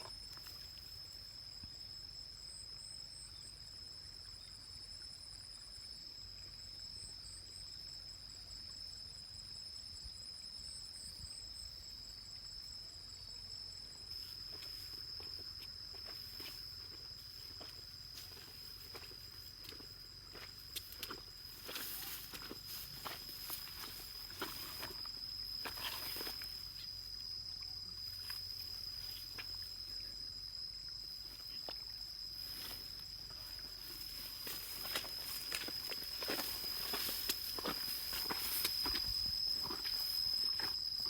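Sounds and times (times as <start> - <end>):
insect high buzz: 0.0 - 41.0
pulsing insect trill: 0.0 - 41.0.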